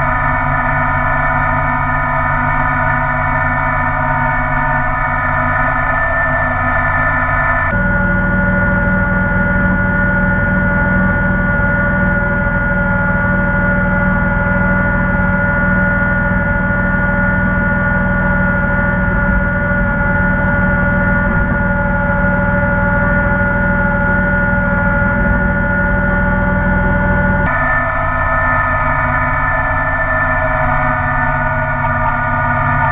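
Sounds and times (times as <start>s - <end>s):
tractor diesel engine droning: 0.0s - 32.9s.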